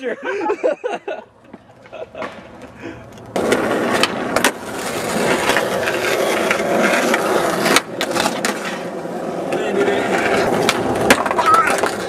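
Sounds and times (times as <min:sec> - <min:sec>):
skateboard wheels rolling on asphalt: 0:00.6 - 0:12.0
skateboard clicks: 0:01.4 - 0:08.8, 0:09.5 - 0:12.0.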